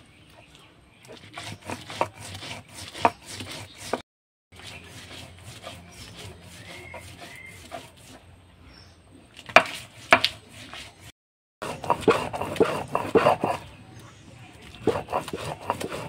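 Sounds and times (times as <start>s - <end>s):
stone roller grinding paste: 0.4s - 8.4s, 9.4s - 13.8s, 14.6s - 16.0s.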